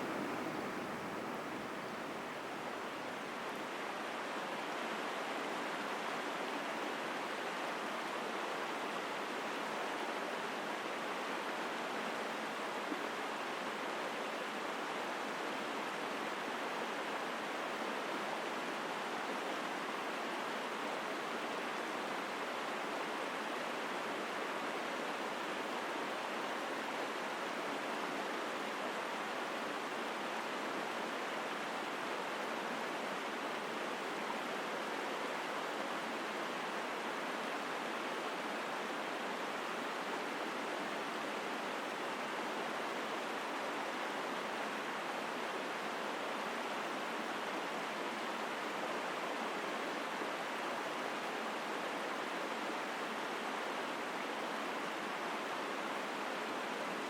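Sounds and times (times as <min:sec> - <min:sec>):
stream rushing water: 0:00.0 - 0:57.0.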